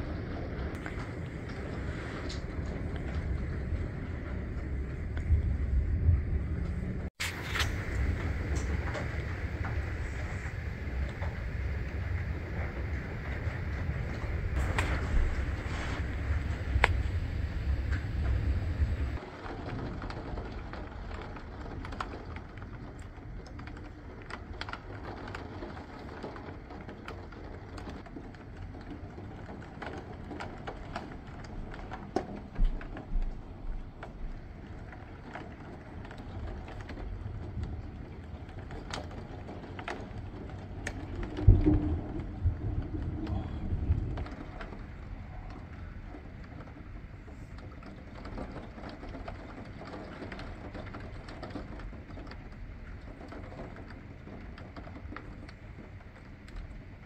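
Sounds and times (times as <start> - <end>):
heavy rain downpour: 0.0 - 57.0
raindrops ticking: 0.0 - 57.0
thunder rumble: 0.0 - 57.0.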